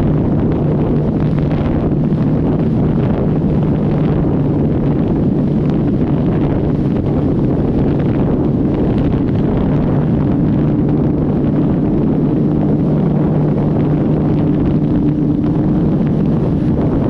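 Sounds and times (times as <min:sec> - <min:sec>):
motorcycle engine low hum: 0:00.0 - 0:17.0
wind rushing over microphone: 0:00.0 - 0:17.0.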